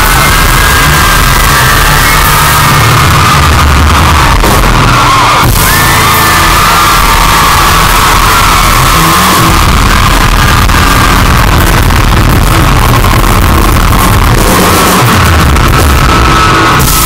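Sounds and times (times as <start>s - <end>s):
loud live band music: 0.0s - 17.0s.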